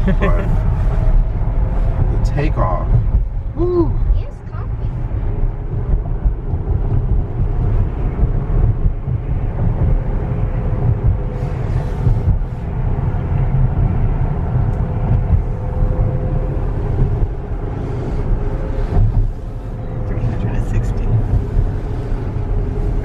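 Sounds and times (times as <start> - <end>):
road and tyre noise: 0.0 - 23.0.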